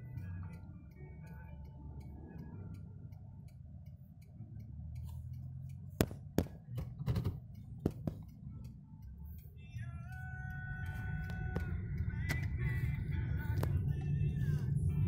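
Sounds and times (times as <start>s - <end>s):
car engine idling: 0.0s - 15.0s
turn signal ticking: 0.0s - 15.0s.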